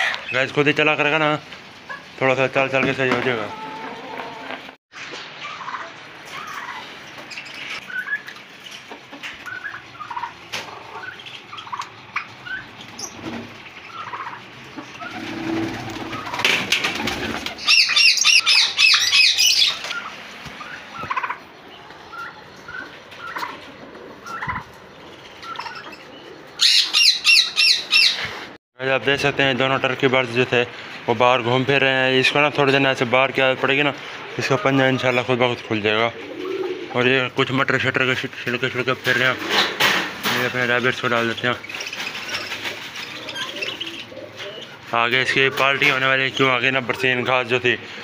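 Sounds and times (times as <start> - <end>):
cage birds chirping: 0.0 - 28.4, 31.4 - 48.0.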